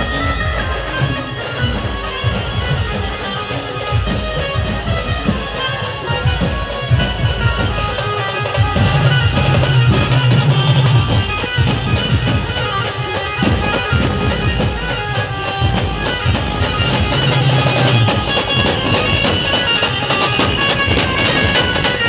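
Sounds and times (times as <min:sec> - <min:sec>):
hand-beaten drum: 0:00.0 - 0:22.0
procession band playing: 0:00.0 - 0:22.0.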